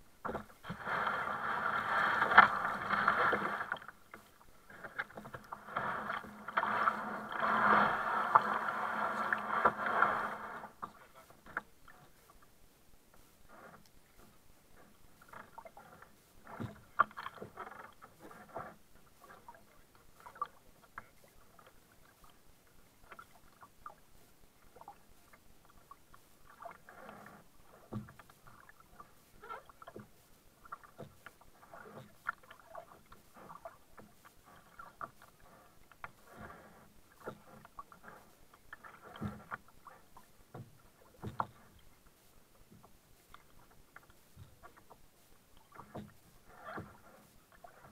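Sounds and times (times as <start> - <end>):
kayak paddle splashing: 0.0 - 12.6, 13.2 - 47.9
water lapping at hull: 0.0 - 47.9.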